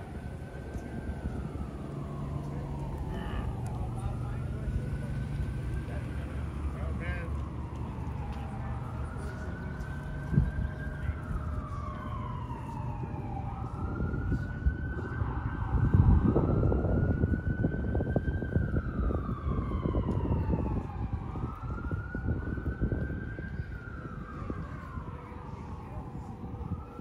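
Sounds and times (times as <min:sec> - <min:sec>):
city street traffic: 0:00.0 - 0:27.0
siren wailing: 0:00.0 - 0:27.0.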